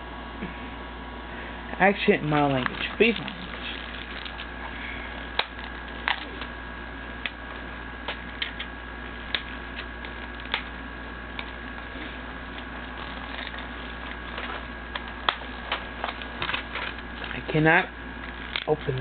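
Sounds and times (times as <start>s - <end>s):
faint hiss with high hum: 0.0s - 19.0s.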